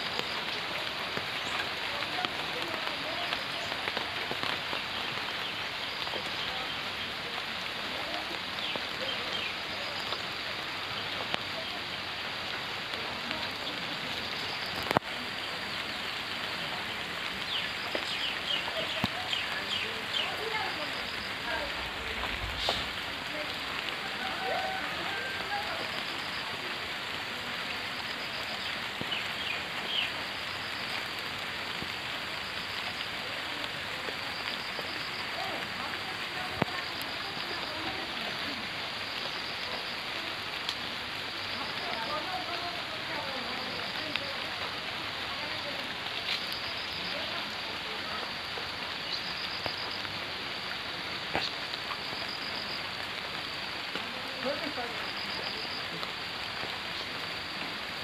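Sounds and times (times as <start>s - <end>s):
steady hiss: 0.0s - 58.0s
steady rain falling: 0.0s - 58.0s.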